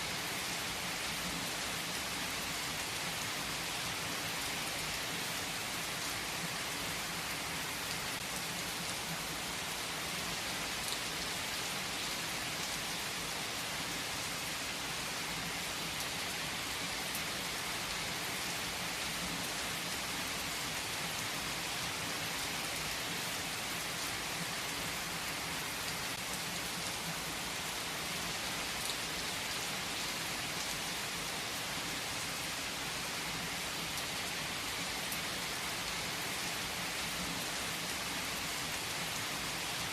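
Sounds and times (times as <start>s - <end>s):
rain downpour on surfaces: 0.0s - 39.9s.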